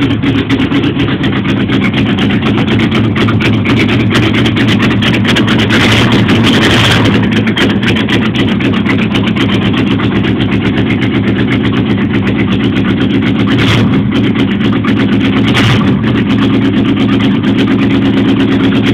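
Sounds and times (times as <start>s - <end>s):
engine idling loudly: 0.0s - 18.9s.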